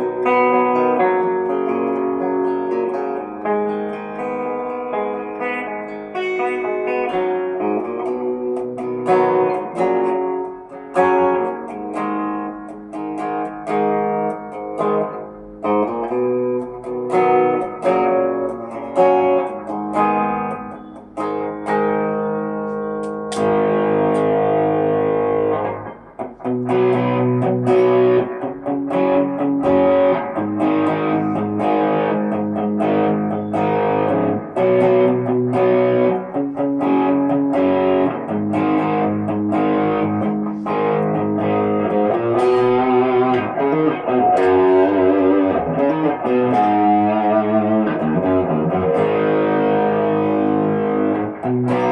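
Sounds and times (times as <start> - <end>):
electric guitar notes and chords: 0.0 - 51.9.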